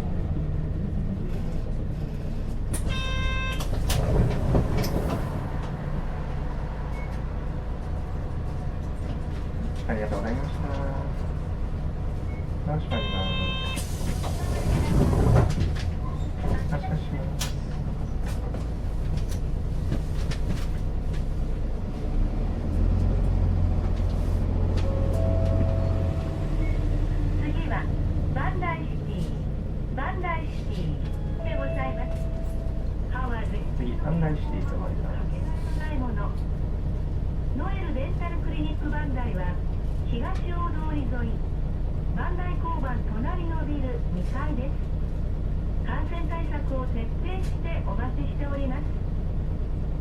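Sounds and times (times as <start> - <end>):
bus engine and road rumble: 0.0 - 50.0.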